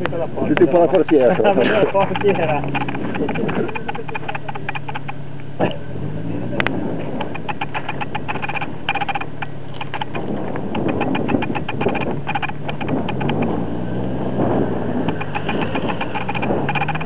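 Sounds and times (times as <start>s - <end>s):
rapid clicking: 0.0s - 5.5s, 6.6s - 13.7s, 14.9s - 17.0s
car engine idling: 0.0s - 17.0s.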